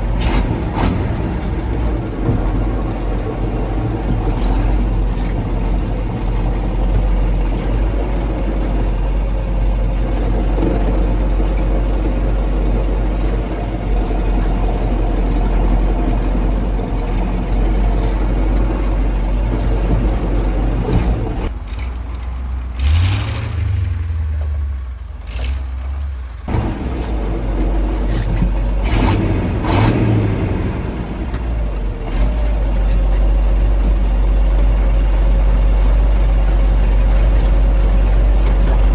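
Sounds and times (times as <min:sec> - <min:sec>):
truck diesel engine under load: 0:00.0 - 0:38.9.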